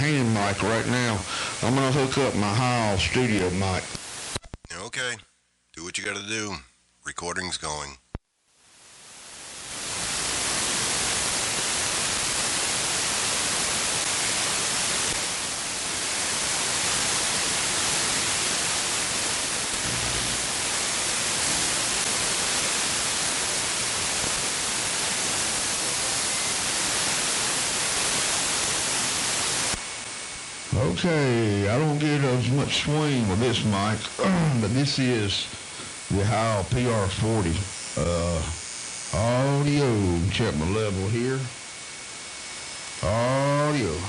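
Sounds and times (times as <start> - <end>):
radio static hiss: 0.0 - 44.0.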